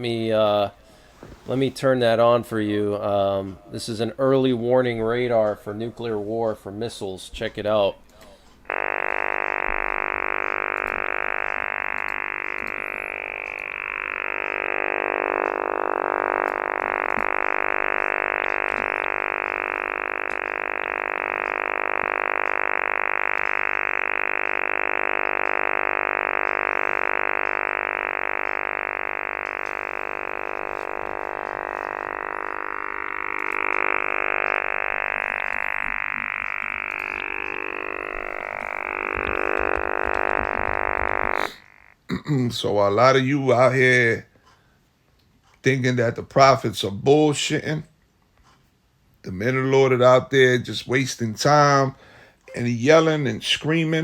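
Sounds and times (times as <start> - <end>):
rasping radar buzz: 0.0 - 44.3, 49.4 - 54.0.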